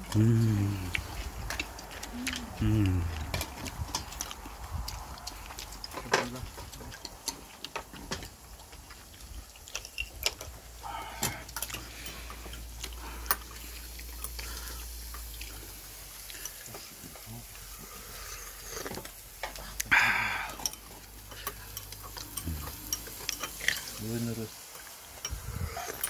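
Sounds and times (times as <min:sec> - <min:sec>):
person eating oysters: 0:00.0 - 0:26.0.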